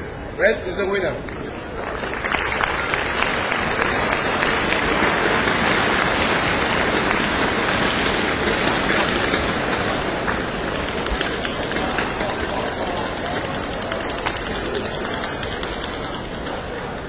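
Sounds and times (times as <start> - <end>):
audience applauding: 1.7 - 16.6.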